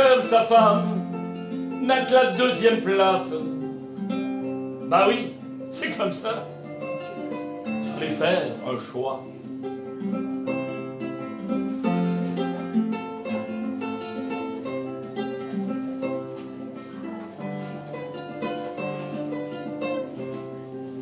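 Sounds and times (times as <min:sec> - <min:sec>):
acoustic guitar picking chords: 0:00.0 - 0:21.0.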